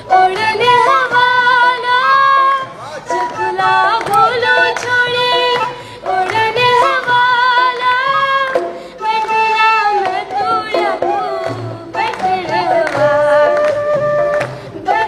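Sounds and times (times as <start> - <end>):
faint musical backing: 0.0 - 15.0.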